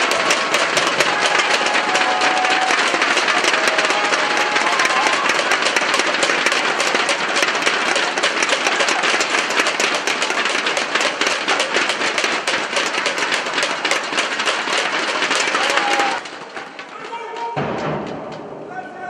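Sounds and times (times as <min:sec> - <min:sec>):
crowd applause: 0:00.0 - 0:19.0
thunder sticks clacking: 0:00.0 - 0:19.0.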